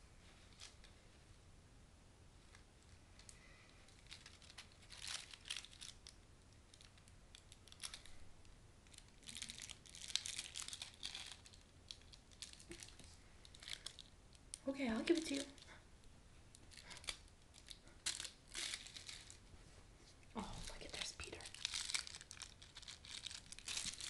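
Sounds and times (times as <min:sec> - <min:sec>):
kitten rustling and crinkling: 0:00.0 - 0:01.4, 0:02.4 - 0:24.0.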